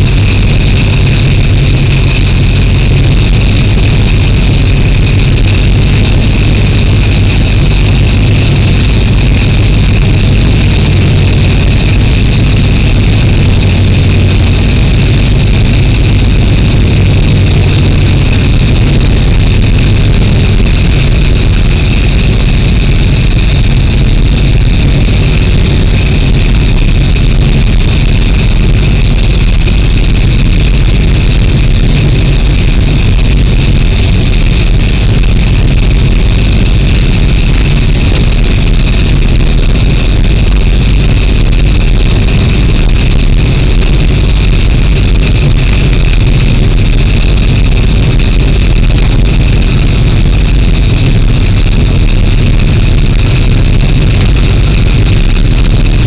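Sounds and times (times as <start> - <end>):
high-pitched whine: 0.0 - 56.0
train engine running: 0.0 - 56.0.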